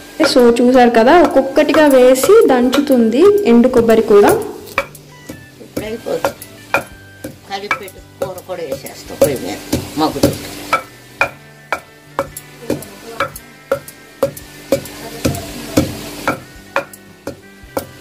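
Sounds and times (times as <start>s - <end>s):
pestle pounding in stone mortar: 0.2s - 18.0s.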